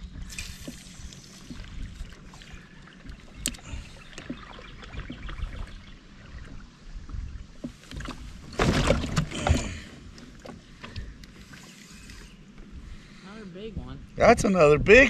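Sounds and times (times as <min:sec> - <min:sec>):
water lapping against boat hull: 0:00.0 - 0:13.9.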